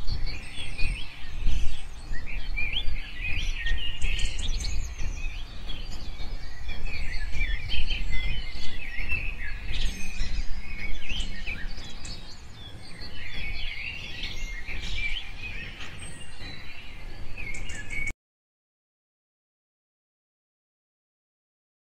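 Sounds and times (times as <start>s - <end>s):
many birds chirping: 0.0s - 18.1s.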